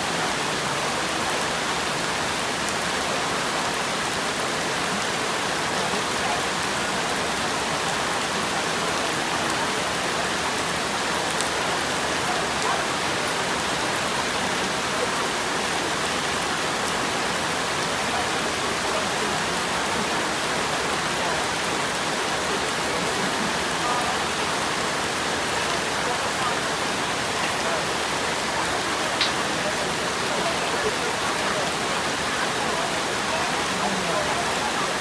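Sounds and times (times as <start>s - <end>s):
steady hiss of water: 0.0s - 35.0s.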